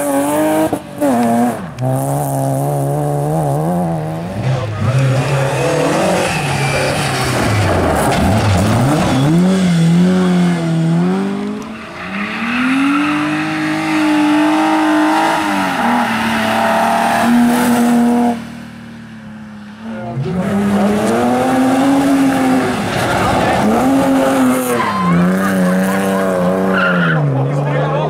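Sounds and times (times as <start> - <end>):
rally car engines at full throttle: 0.0 - 28.0.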